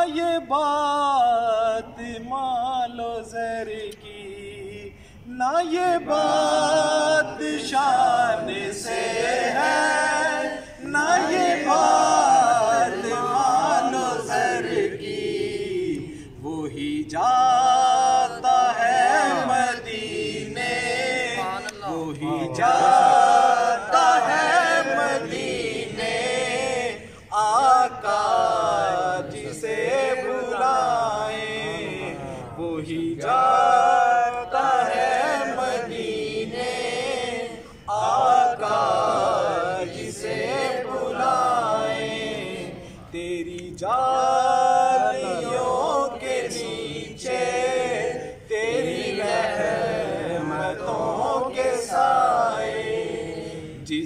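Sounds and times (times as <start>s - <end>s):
man singing unaccompanied: 0.0s - 49.4s, 53.8s - 54.0s.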